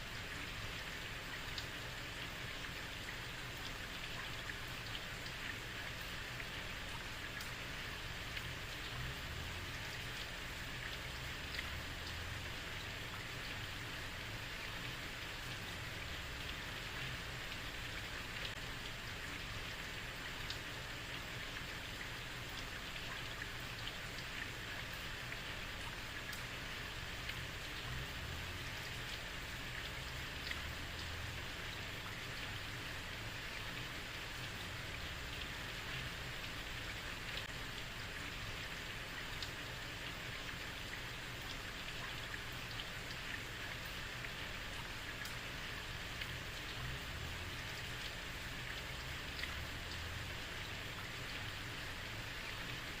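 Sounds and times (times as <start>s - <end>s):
heavy rain on a street: 0.0s - 53.0s.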